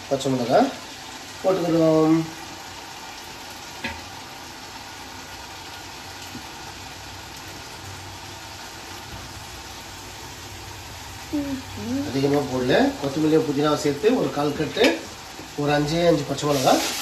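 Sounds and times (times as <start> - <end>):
food sizzling in metal pot: 0.0 - 17.0.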